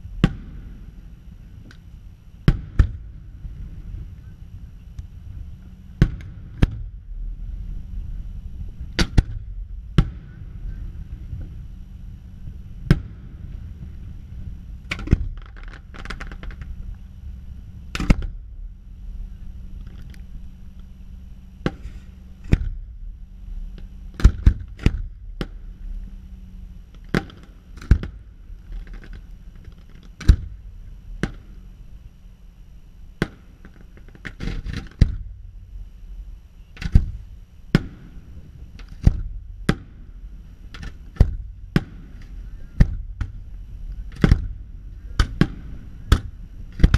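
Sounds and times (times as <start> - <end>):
steady low rumble: 0.0 - 46.9.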